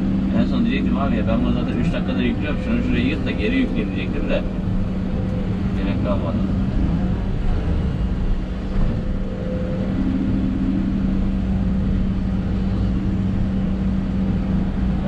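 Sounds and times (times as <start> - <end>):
excavator diesel engine running: 0.0 - 15.0
hydraulics working: 0.0 - 15.0.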